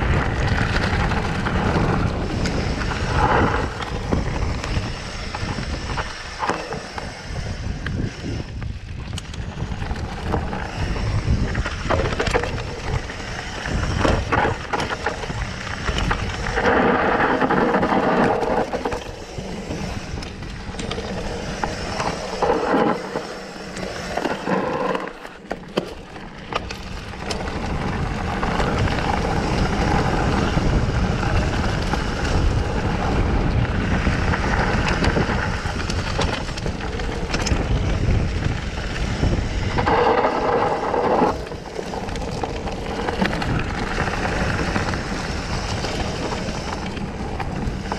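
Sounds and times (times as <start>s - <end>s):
wind buffeting microphone: 0.0s - 25.2s, 26.3s - 47.9s
bike rattling and knocking: 0.0s - 47.9s
bike tyres rumbling on dirt: 0.0s - 47.9s.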